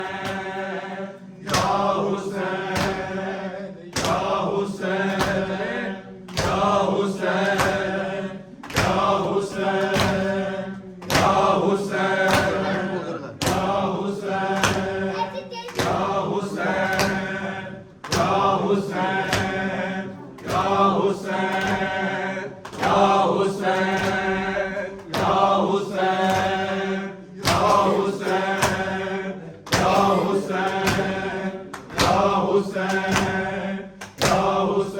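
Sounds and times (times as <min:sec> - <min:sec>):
group chanting in unison: 0:00.0 - 0:34.9
rhythmic chest slapping: 0:00.0 - 0:34.9.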